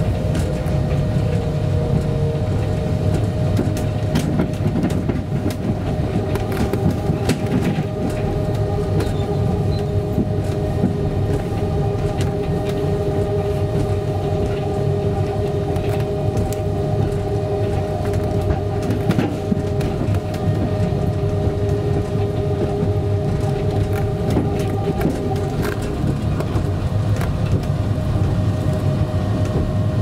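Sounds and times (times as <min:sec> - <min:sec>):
second lower whine: 0:00.0 - 0:30.0
transit car rumble: 0:00.0 - 0:30.0.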